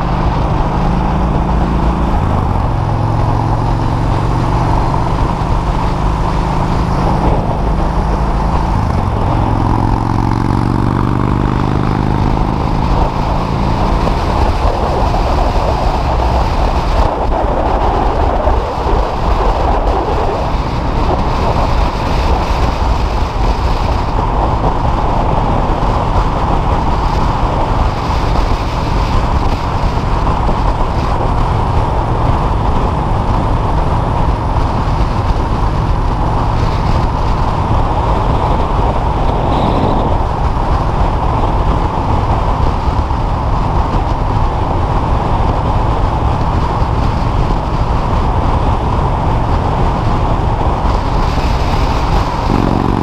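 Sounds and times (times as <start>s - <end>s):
motorcycle engine: 0.0s - 53.0s
wind rushing over microphone: 0.0s - 53.0s.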